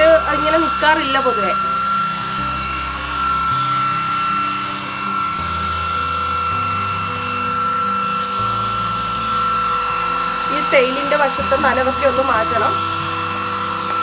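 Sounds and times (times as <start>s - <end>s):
hair dryer whine: 0.0s - 14.0s.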